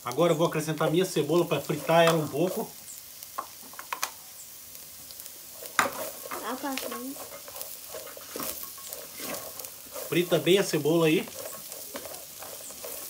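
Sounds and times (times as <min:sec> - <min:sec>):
onion and sausage sizzling in a pot: 0:00.0 - 0:13.0.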